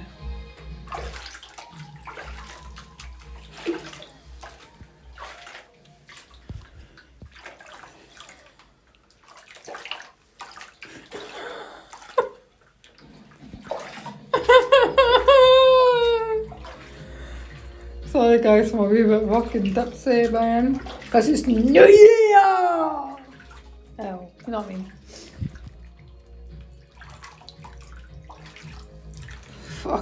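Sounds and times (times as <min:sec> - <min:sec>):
water splashing in a sink: 0:00.0 - 0:30.0.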